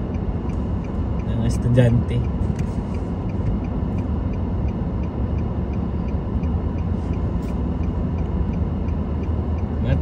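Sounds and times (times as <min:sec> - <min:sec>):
cross traffic passing: 0:00.0 - 0:10.0
light regular ticking: 0:00.0 - 0:10.0
low rumble inside a car: 0:00.0 - 0:10.0.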